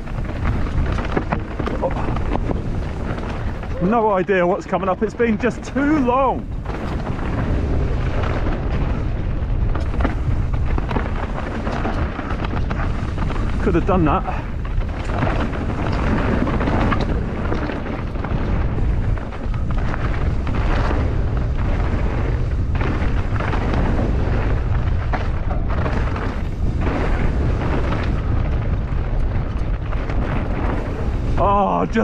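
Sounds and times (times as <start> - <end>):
bike knocking and rattling: 0.0 - 32.0
wind buffeting microphone: 0.0 - 32.0.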